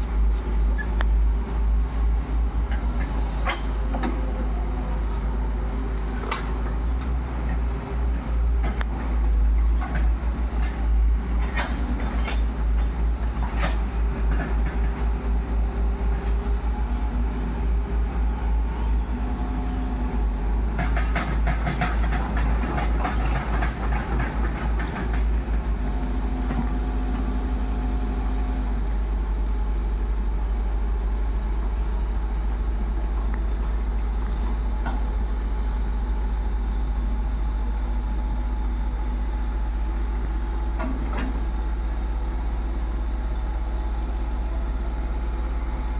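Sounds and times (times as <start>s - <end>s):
diesel engines running: 0.0s - 45.9s.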